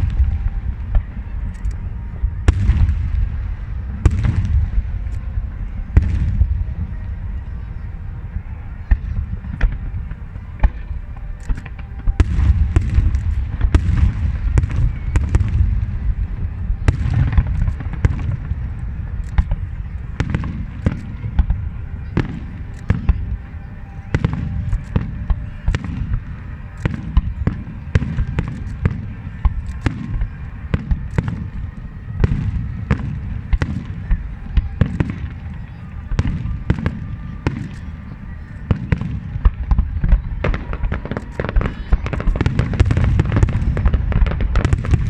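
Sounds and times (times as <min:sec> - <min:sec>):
fireworks bangs and crackles: 0:00.0 - 0:45.0
low rumble of bursting shells: 0:00.0 - 0:45.0.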